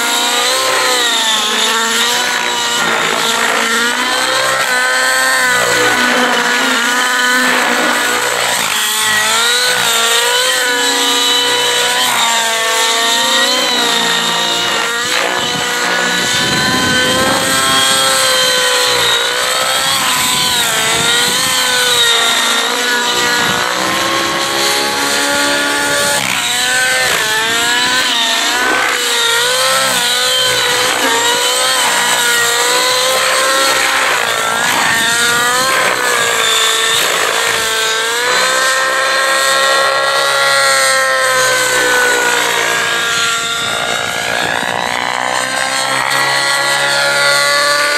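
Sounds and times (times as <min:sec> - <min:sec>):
model helicopter buzzing whine: 0:00.0 - 0:47.9.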